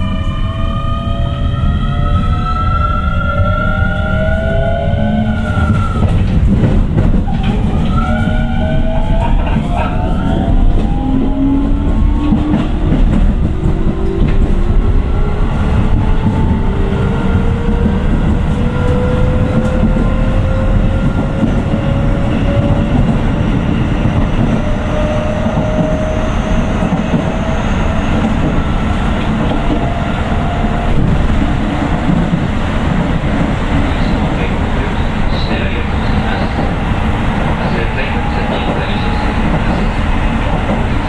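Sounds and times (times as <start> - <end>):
wheels rumbling on rail: 0.0 - 41.0.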